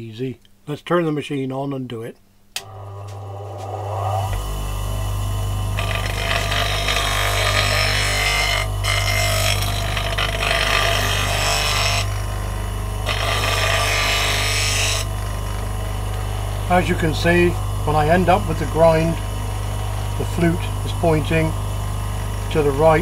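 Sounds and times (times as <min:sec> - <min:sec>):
bench grinder motor humming: 0:02.6 - 0:23.0
steel being ground on wheel: 0:02.8 - 0:23.0.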